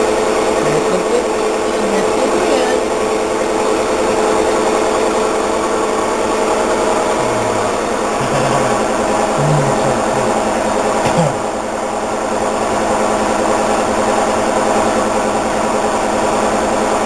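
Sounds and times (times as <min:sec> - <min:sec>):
machine motor droning hum: 0:00.0 - 0:17.0.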